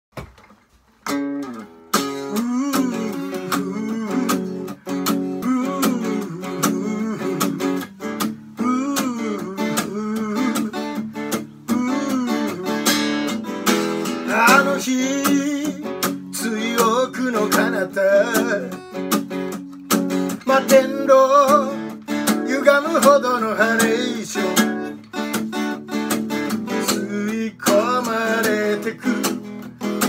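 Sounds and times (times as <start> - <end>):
acoustic guitar strumming: 1.0 - 30.0.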